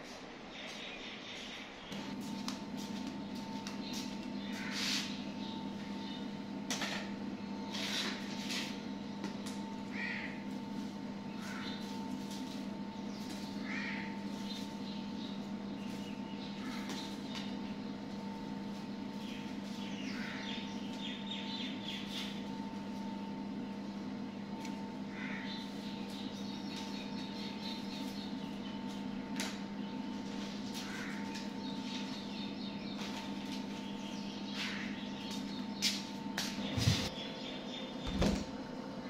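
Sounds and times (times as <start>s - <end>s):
low mechanical hum: 0.0s - 39.0s
birds chirping: 0.5s - 38.4s.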